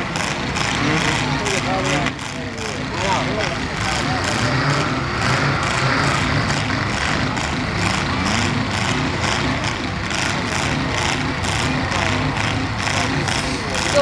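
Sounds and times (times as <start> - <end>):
car engines idling: 0.0 - 14.0.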